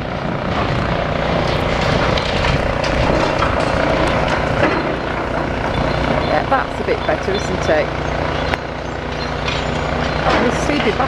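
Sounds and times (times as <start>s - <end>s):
excavator diesel engine running: 0.0s - 11.0s
demolition knocks and clatter: 0.3s - 7.2s, 9.0s - 11.0s.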